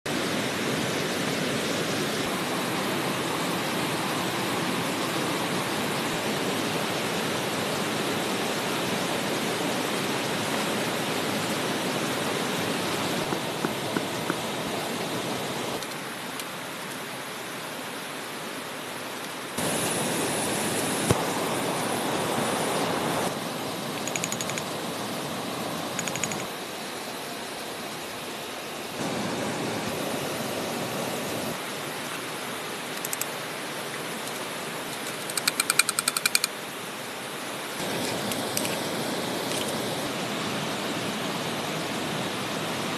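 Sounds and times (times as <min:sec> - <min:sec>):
stream water rushing over rocks: 0:00.1 - 0:42.9.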